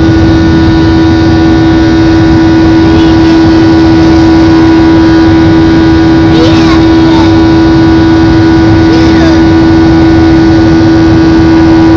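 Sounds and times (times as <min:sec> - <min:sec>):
jet engines roaring: 0:00.0 - 0:11.9.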